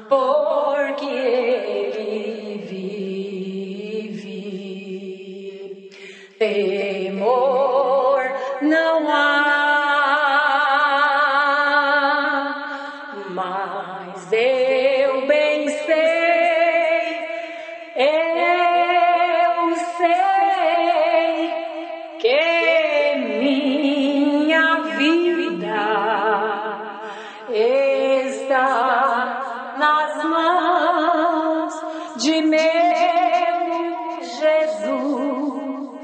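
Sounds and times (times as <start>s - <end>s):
woman singing with vibrato: 0.0s - 36.0s.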